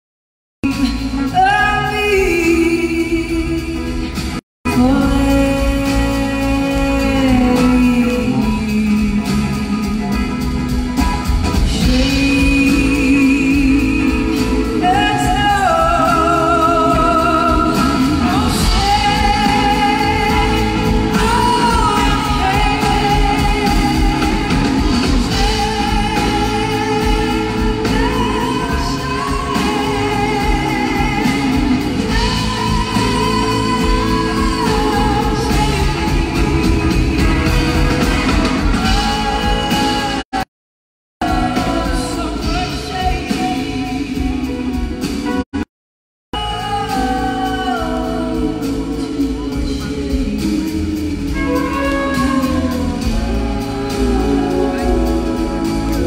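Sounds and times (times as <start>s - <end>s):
woman singing with vibrato: 0.6s - 10.9s, 11.5s - 40.5s, 41.2s - 45.4s, 46.4s - 56.0s
blues-rock band playing: 0.6s - 40.5s, 41.2s - 45.7s, 46.4s - 56.0s.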